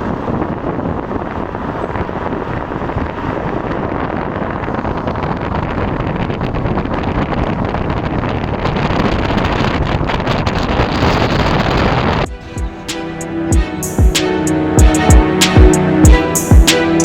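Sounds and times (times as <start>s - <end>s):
wind buffeting microphone: 0.0s - 16.7s.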